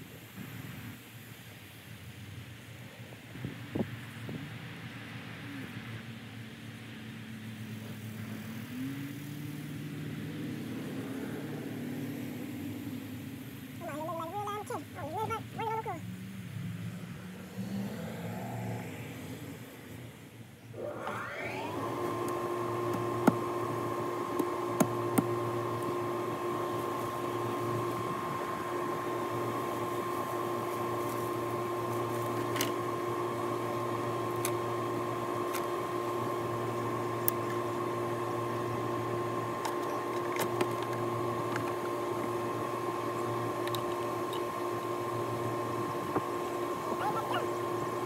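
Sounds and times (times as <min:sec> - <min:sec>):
constant whine: 0:00.0 - 0:48.0
machine hum: 0:00.0 - 0:48.0.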